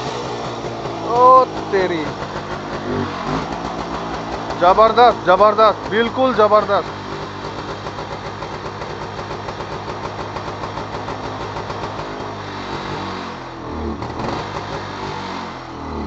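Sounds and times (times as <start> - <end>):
two-stroke motorcycle engine revving: 0.0 - 16.0.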